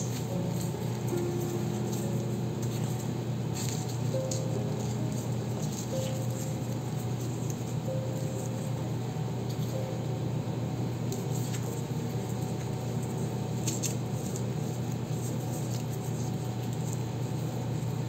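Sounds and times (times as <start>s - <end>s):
paper crinkling: 0.0s - 9.9s, 11.1s - 18.0s
steady low hum: 0.0s - 18.0s.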